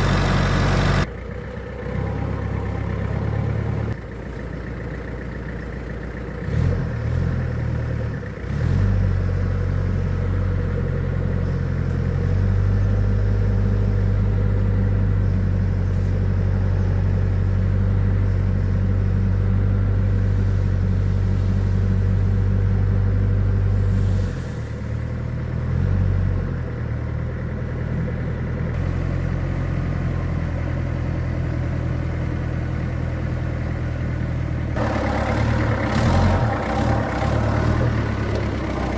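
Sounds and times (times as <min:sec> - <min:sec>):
truck engine droning: 0:00.0 - 0:38.9.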